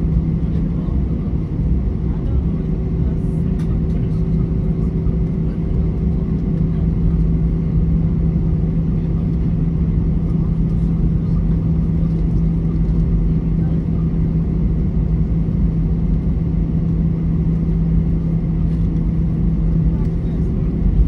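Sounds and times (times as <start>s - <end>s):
airplane cabin drone: 0.0s - 21.0s.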